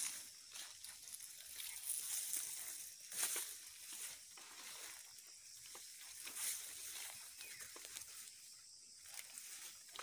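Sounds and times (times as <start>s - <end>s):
leaves rustling and brushing: 0.0s - 10.0s.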